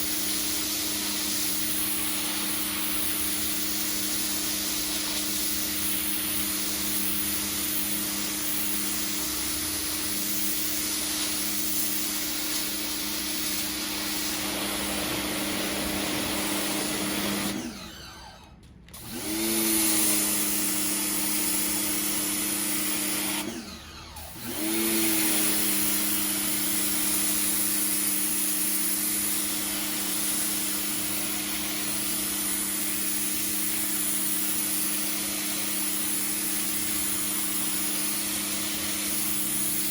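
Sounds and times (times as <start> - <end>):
pressure washer spraying: 0.0 - 17.9, 19.0 - 23.6, 24.3 - 39.9.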